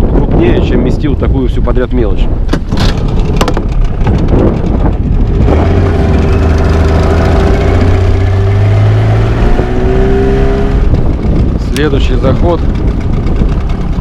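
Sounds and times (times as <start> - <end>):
outboard motor droning: 2.6 - 14.0.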